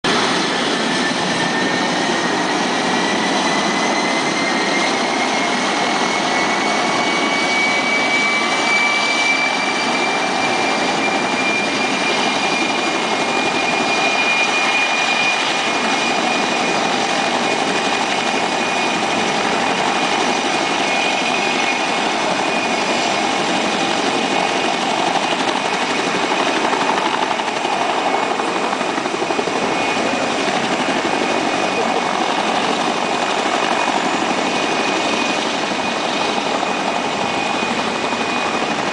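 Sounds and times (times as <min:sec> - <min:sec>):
helicopter turbine engine whine: 0:00.0 - 0:38.9.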